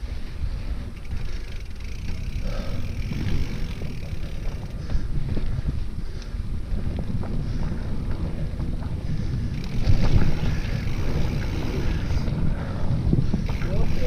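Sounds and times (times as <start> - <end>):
bike rattling over bumps: 0.0 - 14.0
wind buffeting microphone: 0.0 - 14.0.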